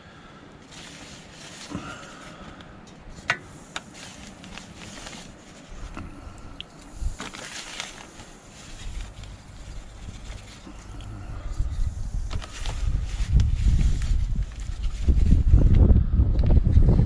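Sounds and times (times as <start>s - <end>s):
hands rustling in plastic bag: 0.6s - 15.9s.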